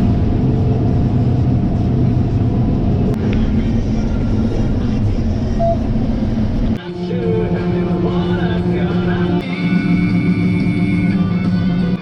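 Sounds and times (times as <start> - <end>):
combine harvester humming: 0.0 - 12.0.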